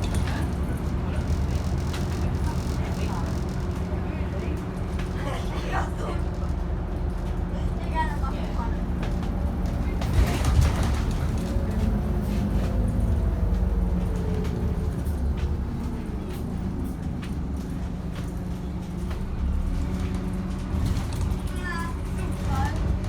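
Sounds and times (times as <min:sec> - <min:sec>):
bus engine rumble: 0:00.0 - 0:23.0.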